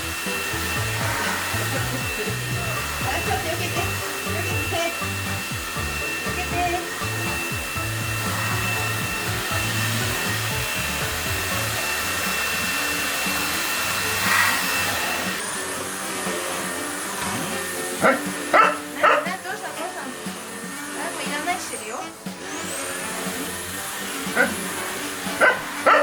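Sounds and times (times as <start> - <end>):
stick vacuum running: 0.0 - 26.0.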